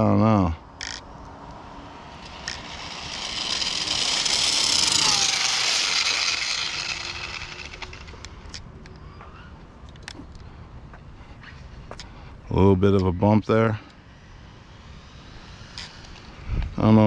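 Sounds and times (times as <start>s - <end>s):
vehicle passing by: 0.0s - 9.8s, 11.1s - 17.0s.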